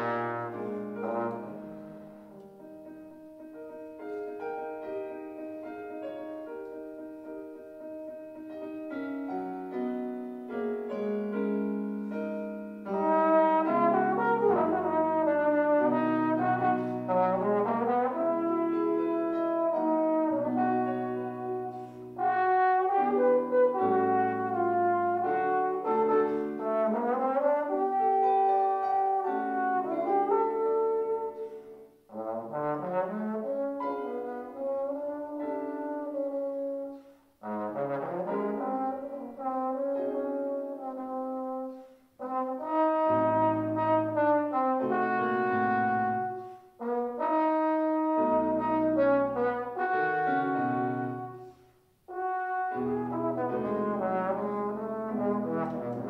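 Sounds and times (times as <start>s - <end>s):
trombone solo: 0.0s - 2.1s, 12.8s - 56.0s
piano accompaniment: 0.0s - 56.0s.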